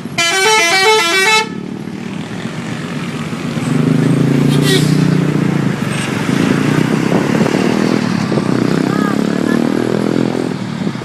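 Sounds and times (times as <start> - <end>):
motor vehicle running: 0.0 - 11.0
passing traffic: 0.0 - 11.0.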